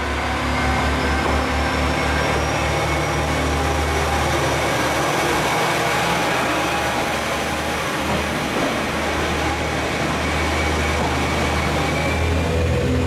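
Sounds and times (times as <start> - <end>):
railcar diesel engine hum: 0.0 - 13.0
train running noise: 0.0 - 13.0.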